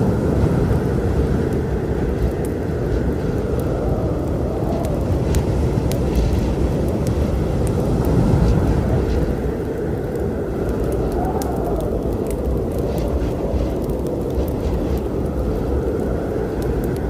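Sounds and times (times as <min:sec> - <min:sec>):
storm wind and rain rumble: 0:00.0 - 0:17.0
wood fire crackling: 0:00.0 - 0:17.0.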